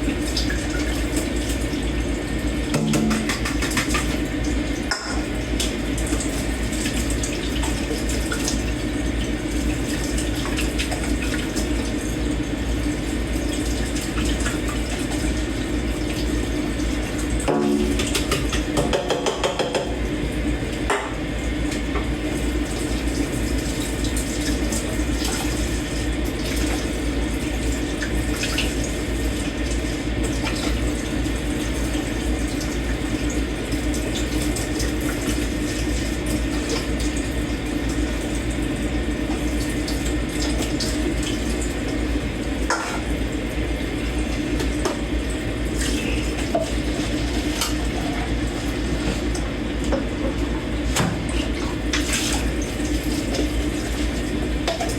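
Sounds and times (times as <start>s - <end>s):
tap water running into sink: 0.0s - 54.9s.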